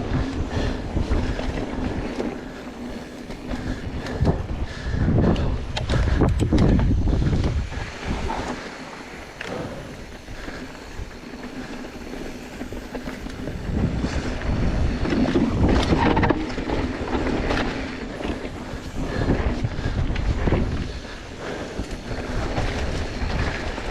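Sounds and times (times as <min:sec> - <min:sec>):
bike rattles and knocks: 0:00.0 - 0:23.9
tyres rolling on dirt: 0:00.0 - 0:23.9
wind on microphone: 0:00.0 - 0:23.9.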